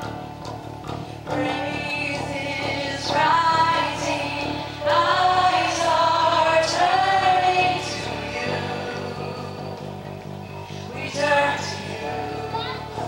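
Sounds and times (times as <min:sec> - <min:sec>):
acoustic guitar: 0:00.0 - 0:13.0
bass: 0:00.0 - 0:13.0
keyboard: 0:00.0 - 0:13.0
woman singing lead: 0:01.2 - 0:13.0.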